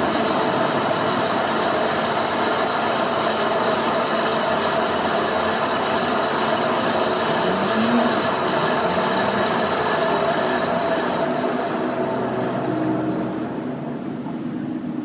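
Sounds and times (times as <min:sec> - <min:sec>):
metal lathe running: 0:00.0 - 0:14.3.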